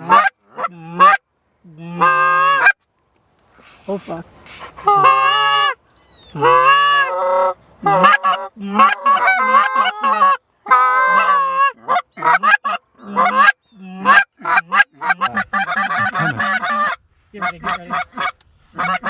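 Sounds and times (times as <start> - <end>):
goose honking: 0.0 - 1.2, 3.6 - 19.0.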